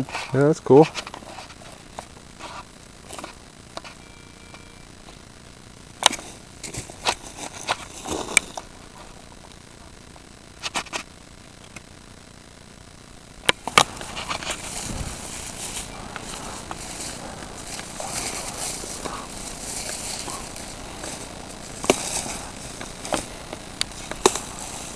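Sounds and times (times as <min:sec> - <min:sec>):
steady rustle: 0:00.0 - 0:11.2, 0:13.5 - 0:24.9.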